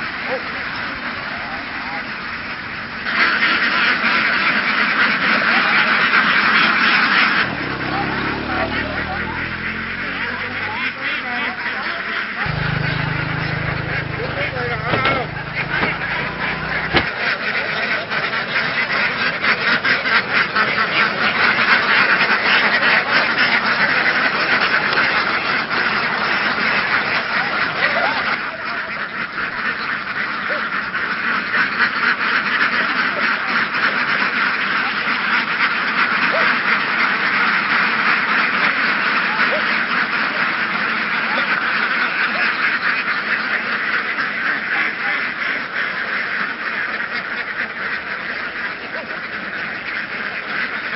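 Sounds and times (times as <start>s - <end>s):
ducks quacking: 0.0s - 50.9s.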